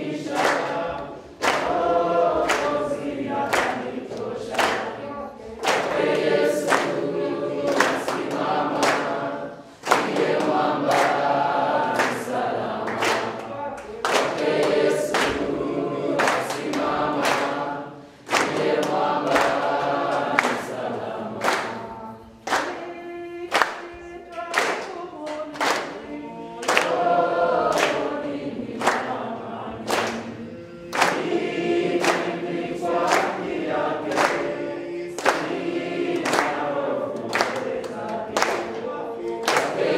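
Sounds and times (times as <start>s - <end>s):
group singing: 0.0s - 39.9s
hands clapping: 0.0s - 39.9s.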